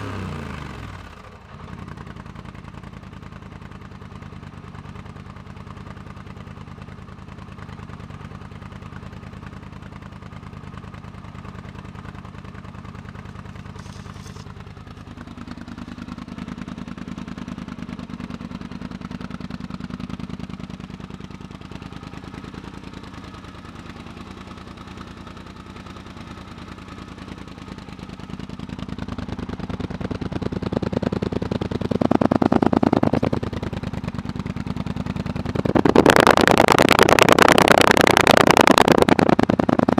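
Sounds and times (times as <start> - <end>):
quad bike engine idling and revving: 0.0 - 39.9.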